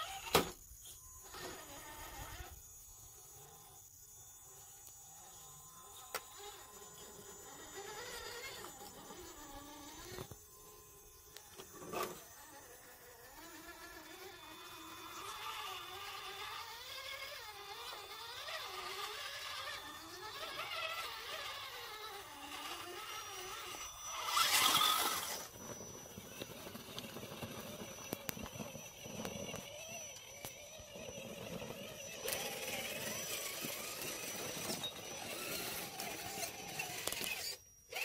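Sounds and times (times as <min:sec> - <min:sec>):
electric motors whining: 0:00.0 - 0:38.0.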